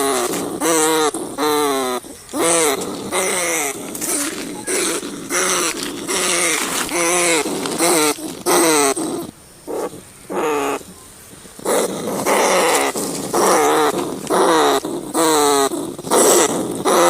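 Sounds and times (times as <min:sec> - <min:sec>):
rat squealing: 0:00.0 - 0:11.0, 0:11.6 - 0:17.0.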